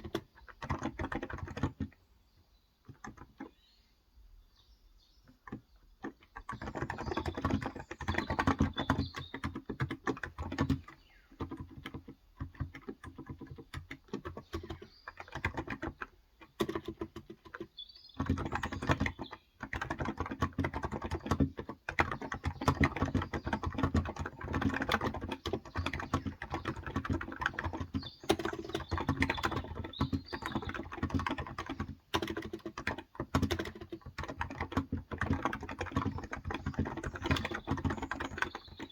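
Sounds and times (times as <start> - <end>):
fast keyboard typing: 0.0 - 2.0, 2.9 - 3.6, 5.2 - 38.9.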